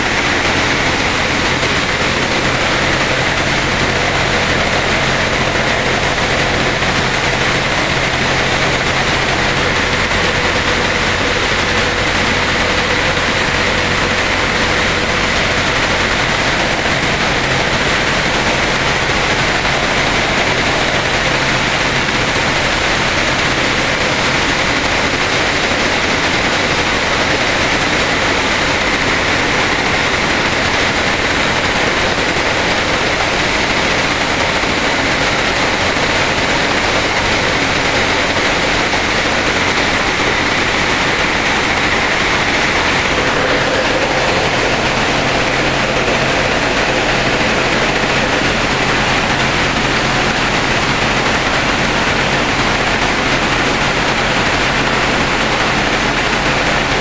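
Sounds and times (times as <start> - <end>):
corn sheller mechanical drone: 0.0 - 57.0.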